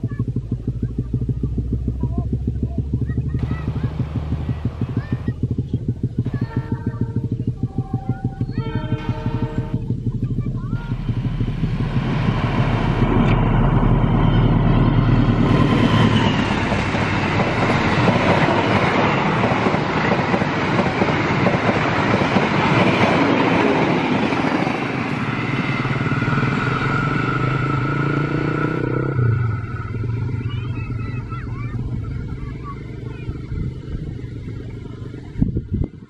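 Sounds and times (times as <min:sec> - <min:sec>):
coach wheels rattling on rails: 0:00.0 - 0:36.0
locomotive engine rumble: 0:00.0 - 0:36.0.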